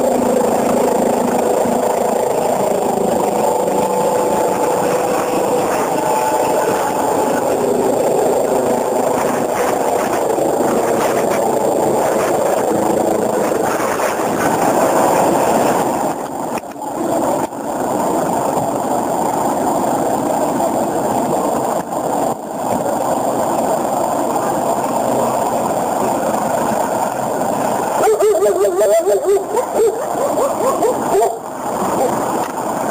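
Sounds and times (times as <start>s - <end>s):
helicopter rotor and turbine: 0.0s - 32.9s.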